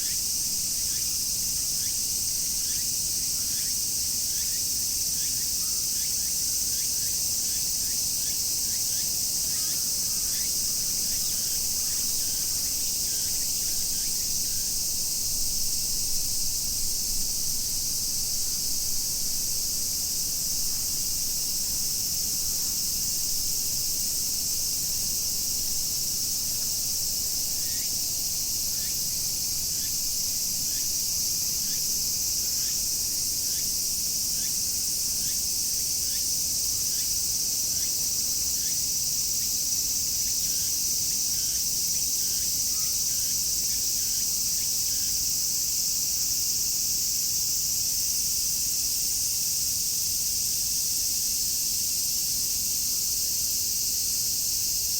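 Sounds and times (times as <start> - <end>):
cicadas droning: 0.0 - 54.9.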